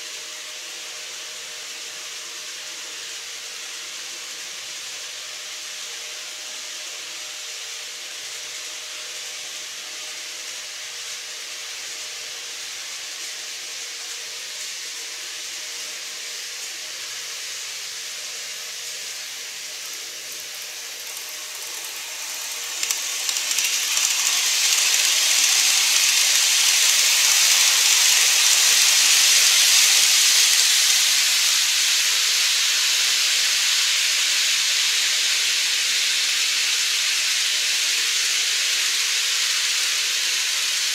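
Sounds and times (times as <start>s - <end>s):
model trains running on track: 0.0s - 40.9s.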